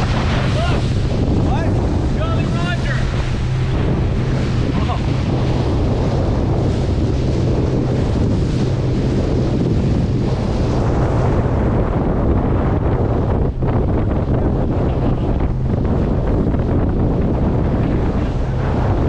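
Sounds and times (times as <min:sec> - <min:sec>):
boat engine drone: 0:00.0 - 0:19.0
water rushing along hull: 0:00.0 - 0:19.0
wind buffeting microphone: 0:00.0 - 0:19.0.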